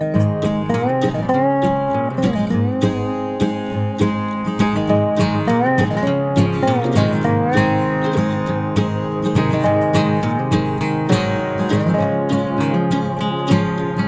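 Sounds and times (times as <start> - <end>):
acoustic guitar music with beat: 0.0 - 14.0.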